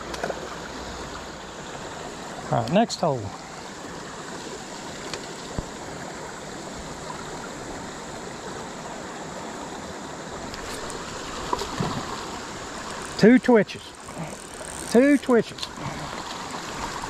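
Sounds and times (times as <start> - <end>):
creek water over rocks: 0.0 - 17.0.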